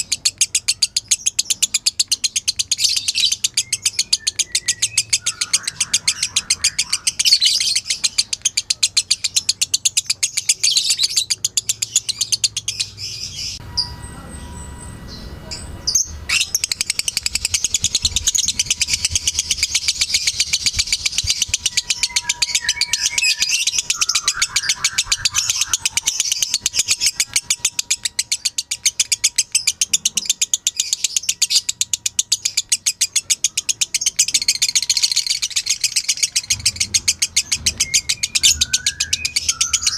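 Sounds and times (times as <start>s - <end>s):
bird chattering trill: 0.0s - 14.0s, 15.1s - 39.9s.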